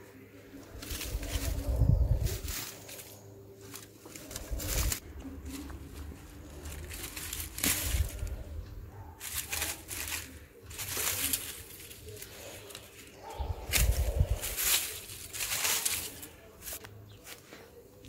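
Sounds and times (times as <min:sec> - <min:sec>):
weeds rustling as pulled: 0:00.0 - 0:18.0.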